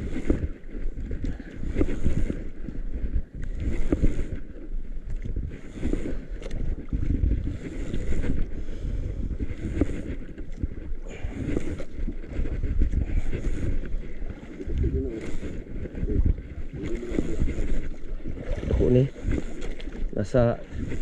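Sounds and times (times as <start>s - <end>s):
sea water sloshing against boat: 0.0s - 21.0s
wind buffeting microphone: 0.0s - 21.0s.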